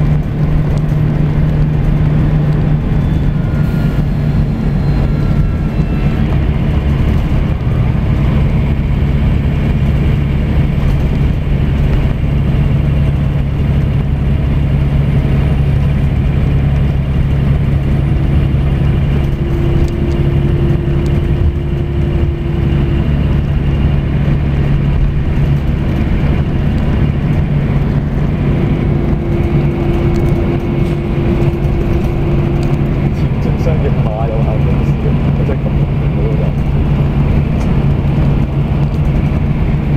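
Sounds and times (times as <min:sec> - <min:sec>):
bus engine and tyre drone: 0:00.0 - 0:39.9
higher steady hum: 0:00.0 - 0:39.9.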